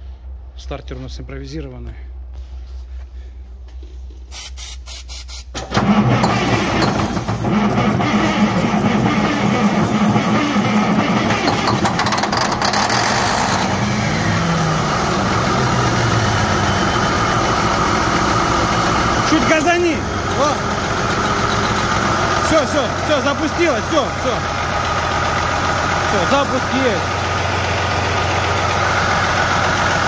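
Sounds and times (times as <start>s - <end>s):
diesel engine cranking and running: 5.5s - 30.0s.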